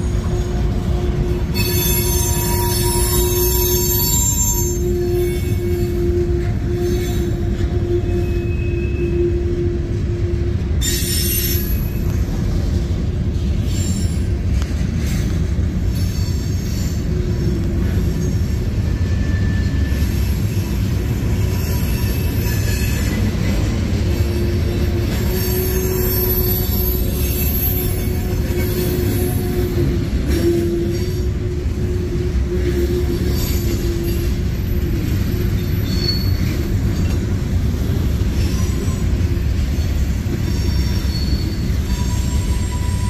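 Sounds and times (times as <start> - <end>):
wheels squealing: 0.0 - 9.5, 13.3 - 43.0
train wheels rumbling on rail: 0.0 - 43.0.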